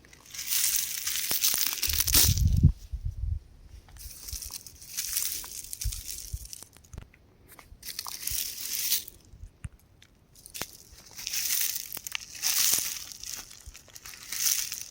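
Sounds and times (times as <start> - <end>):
rocks crumbling: 0.0 - 2.7, 4.0 - 7.1, 7.8 - 14.9.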